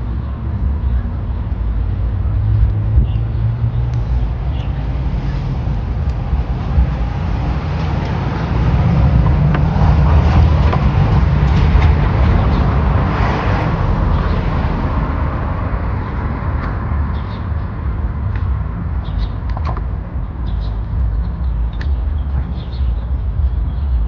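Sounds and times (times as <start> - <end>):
low rumbling noise: 0.0 - 24.0.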